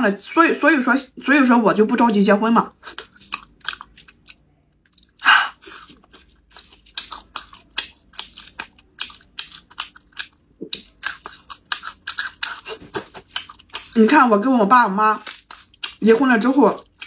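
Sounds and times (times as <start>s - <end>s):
wet chewing and mouth clicks: 1.9s - 17.0s.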